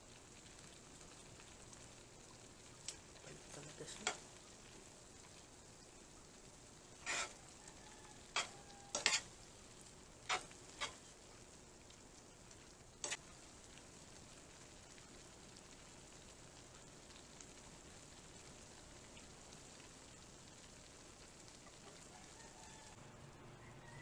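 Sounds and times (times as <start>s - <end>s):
mushrooms sizzling in a pot: 0.0s - 23.1s.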